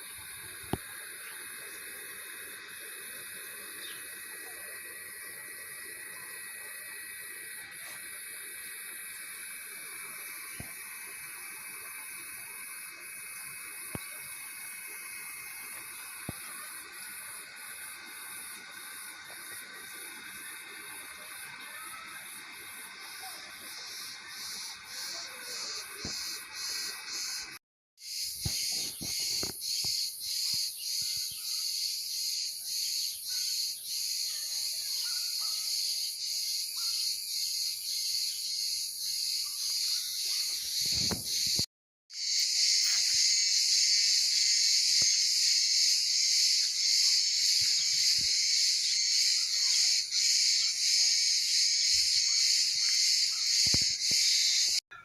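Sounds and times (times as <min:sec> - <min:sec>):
insect chorus buzzing: 0:00.0 - 0:54.8.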